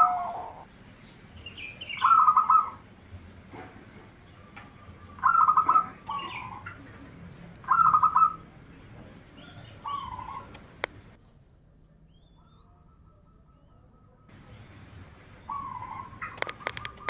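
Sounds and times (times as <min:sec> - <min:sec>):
dove cooing: 0:00.0 - 0:00.7, 0:01.5 - 0:11.2, 0:12.2 - 0:17.0.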